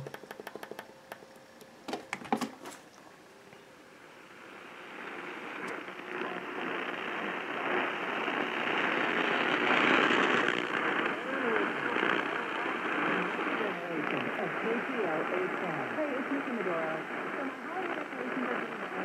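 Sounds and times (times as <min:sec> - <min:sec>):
radio tuning clicks: 0:00.0 - 0:03.7, 0:05.0 - 0:19.0
radio static hiss: 0:00.0 - 0:19.0.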